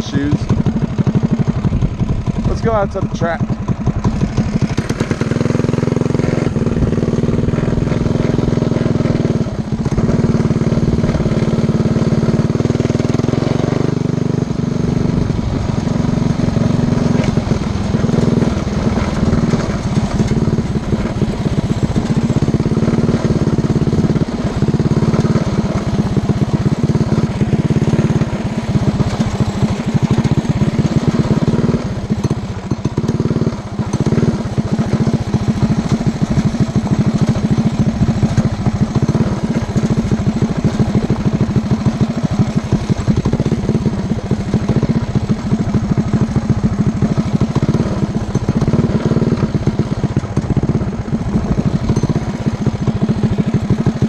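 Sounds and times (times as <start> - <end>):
mini bike engine running: 0.0 - 54.0.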